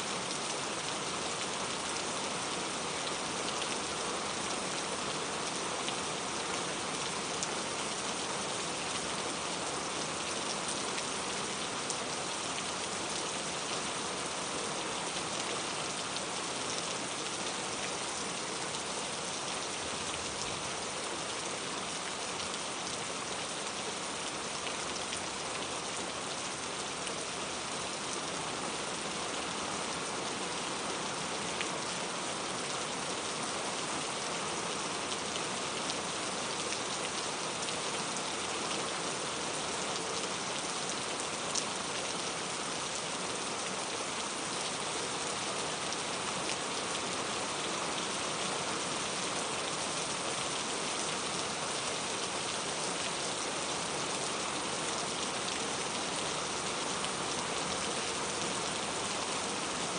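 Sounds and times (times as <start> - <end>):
rain falling on surfaces: 0.0 - 59.9.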